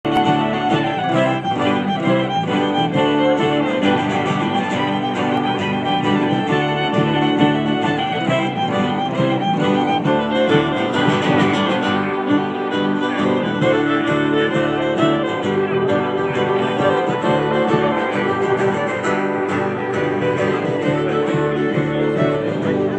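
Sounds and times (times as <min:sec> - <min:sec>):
fiddle and guitar tune: 0:00.0 - 0:22.9.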